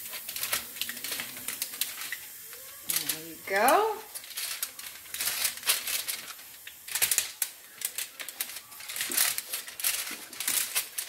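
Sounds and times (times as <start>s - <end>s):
foil scraping and crinkling: 0.0s - 11.0s.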